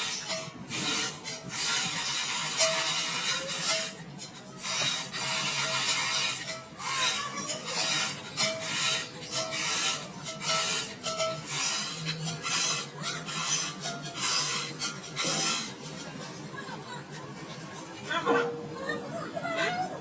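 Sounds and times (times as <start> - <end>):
metal being hand-filed: 0.0 - 18.8.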